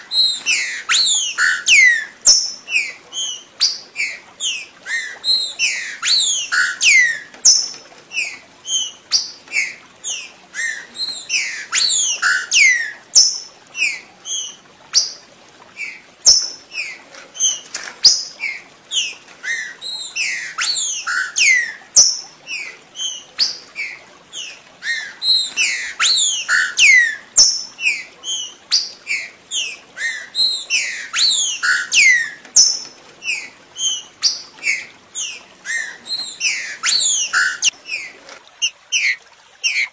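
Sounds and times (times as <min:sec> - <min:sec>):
bird whistling song: 0:00.1 - 0:15.2, 0:15.8 - 0:37.8, 0:38.6 - 0:39.9.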